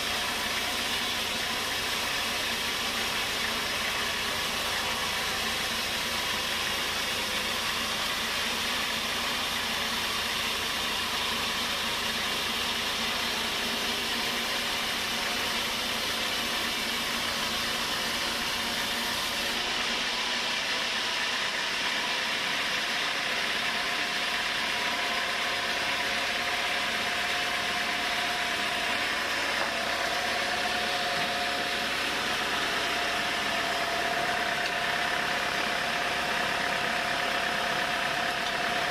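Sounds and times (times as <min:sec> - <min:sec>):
sawmill running: 0:00.0 - 0:38.9.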